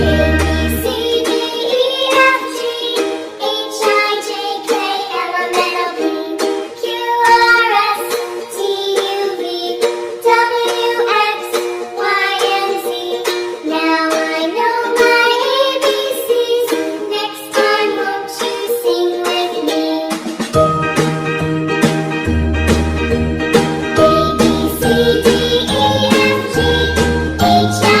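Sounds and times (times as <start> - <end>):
person singing: 0.0 - 20.5, 23.9 - 28.0
light rhythmic music: 0.0 - 28.0.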